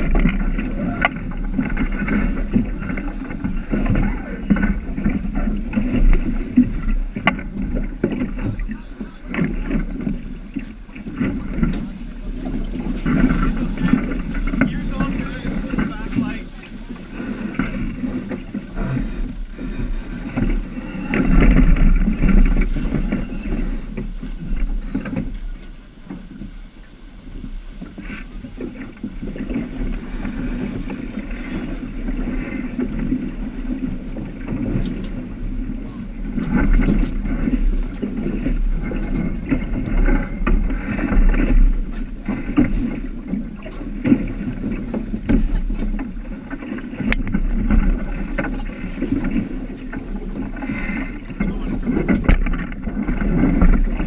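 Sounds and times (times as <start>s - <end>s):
water rushing along hull: 0.0s - 54.0s
wind buffeting microphone: 0.0s - 54.0s.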